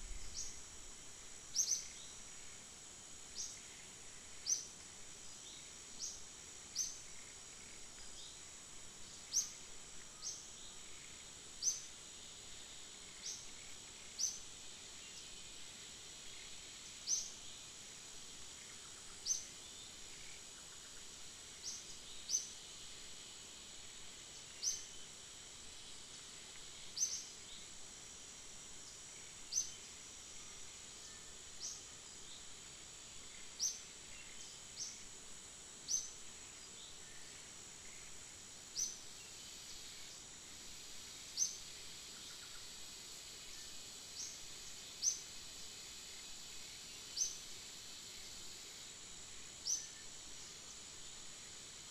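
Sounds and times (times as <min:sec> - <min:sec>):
high-pitched insect drone: 0:00.0 - 0:51.9.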